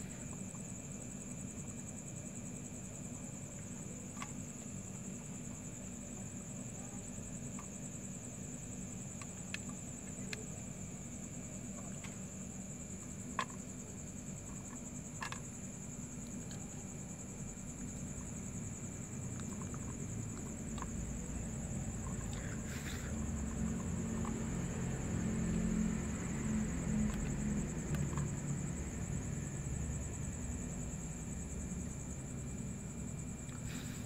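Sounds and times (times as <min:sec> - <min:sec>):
constant high whine: 0:00.0 - 0:34.0.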